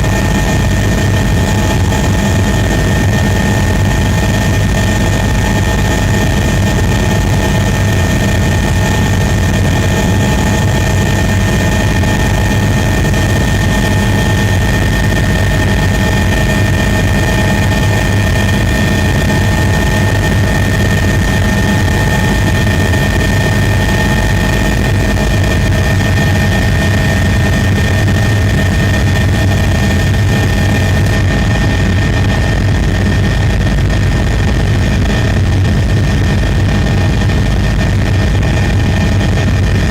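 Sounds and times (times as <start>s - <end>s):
aircraft propellers whining: 0.0s - 39.9s.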